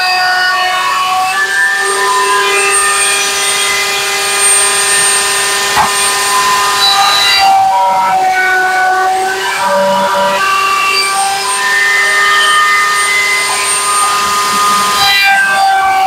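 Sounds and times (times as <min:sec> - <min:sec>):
wood router whining: 0:00.0 - 0:16.0.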